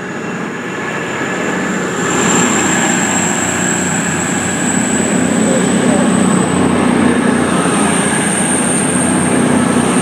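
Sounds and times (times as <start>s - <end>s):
diesel train engines pulling away: 0.0s - 10.0s
high whine rising in pitch: 0.0s - 10.0s.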